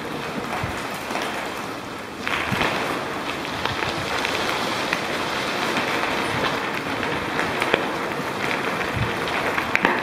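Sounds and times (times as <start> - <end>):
bicycle tyres crunching on gravel: 0.0 - 10.0.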